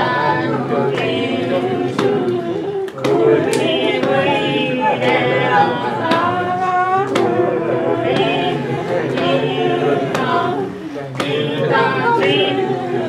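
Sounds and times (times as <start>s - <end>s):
voices singing together: 0.0s - 13.0s
sharp tap keeping the beat: 0.9s - 10.6s, 11.2s - 12.5s.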